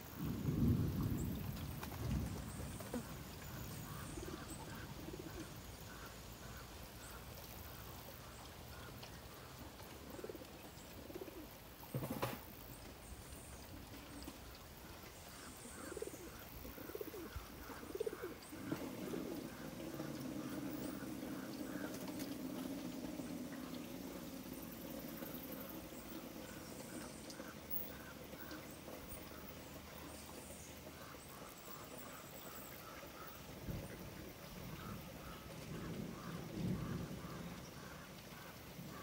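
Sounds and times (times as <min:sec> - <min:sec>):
doves cooing: 0:00.1 - 0:39.0.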